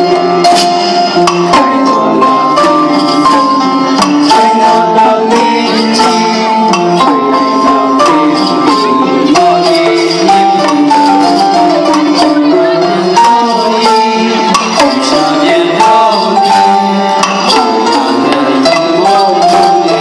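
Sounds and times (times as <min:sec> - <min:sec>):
melody of held notes: 0:00.0 - 0:20.0
drum strikes: 0:00.1 - 0:20.0.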